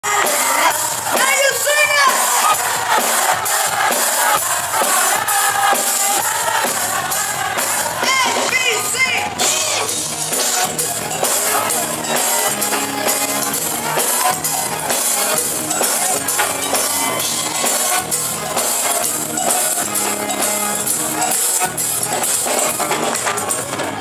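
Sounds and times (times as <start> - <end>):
audience cheering and shouting: 0.0 - 24.0
live band music: 0.0 - 24.0.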